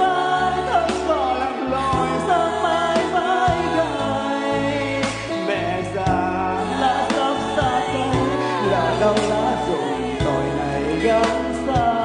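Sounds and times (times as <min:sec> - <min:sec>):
backing track with bass: 0:00.0 - 0:12.0
man singing into microphone: 0:00.0 - 0:12.0.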